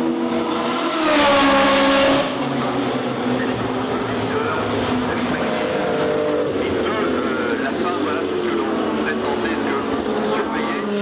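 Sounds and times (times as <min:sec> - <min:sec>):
other race engines running: 0:00.0 - 0:11.0
race car engine passing: 0:00.0 - 0:11.0.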